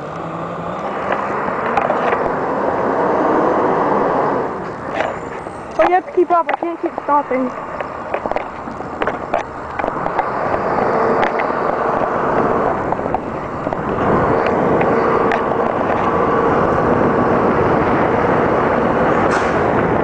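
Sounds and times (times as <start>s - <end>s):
wind buffeting microphone: 0.0s - 20.0s
steady hum: 3.6s - 20.0s.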